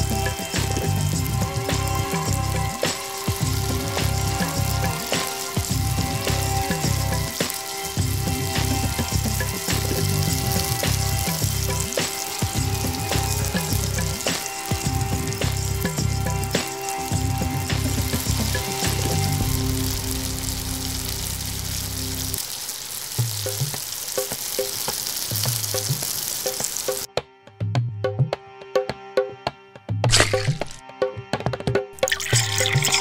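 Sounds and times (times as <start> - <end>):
background music: 0.0 - 22.4, 26.6 - 33.0
vegetables sizzling in a pan: 0.0 - 27.1.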